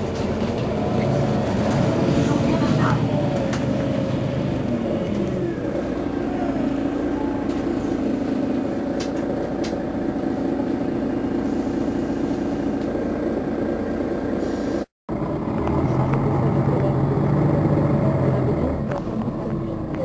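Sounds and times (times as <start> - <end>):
bus diesel engine idling: 0.0 - 20.0.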